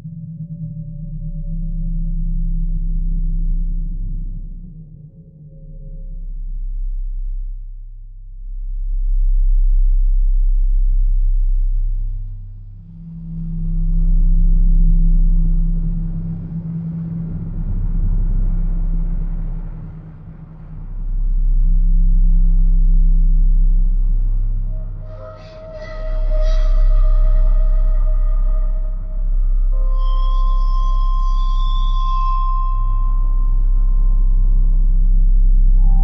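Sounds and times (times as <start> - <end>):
deep low drone: 0.0 - 36.0.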